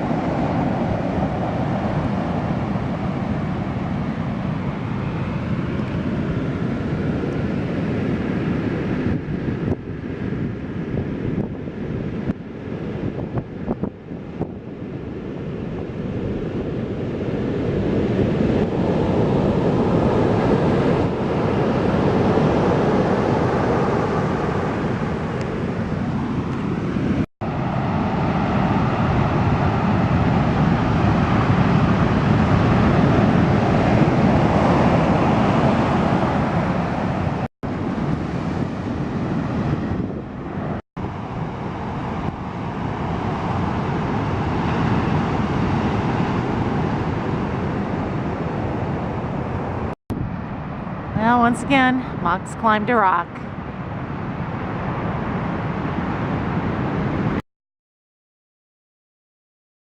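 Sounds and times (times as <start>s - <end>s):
wind buffeting microphone: 0.0s - 52.4s
ocean surf rushing: 0.0s - 57.4s.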